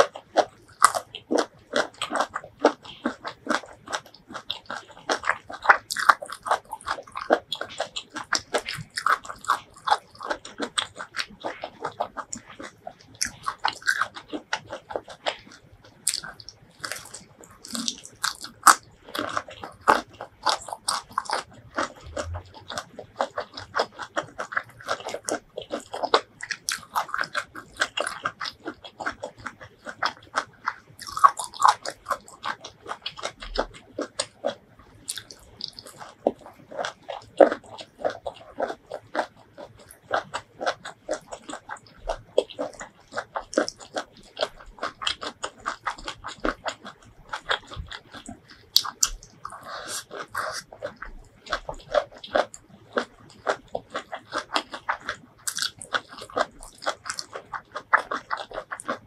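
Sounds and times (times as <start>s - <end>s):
chewing: 0.0s - 59.0s
crunching bites of salad: 0.0s - 59.0s.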